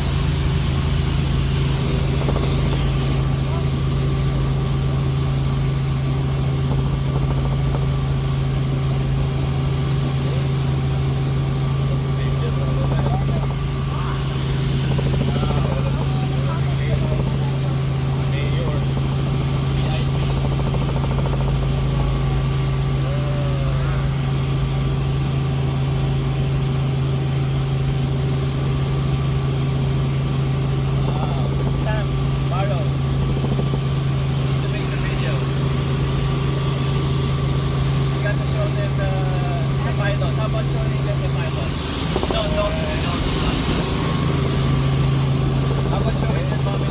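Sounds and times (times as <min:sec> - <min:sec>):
helicopter engine and rotor hum: 0:00.0 - 0:46.9.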